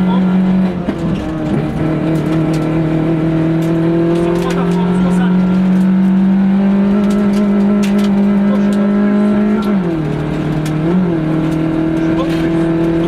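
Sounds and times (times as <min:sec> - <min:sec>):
car engine at speed: 0:00.0 - 0:13.0.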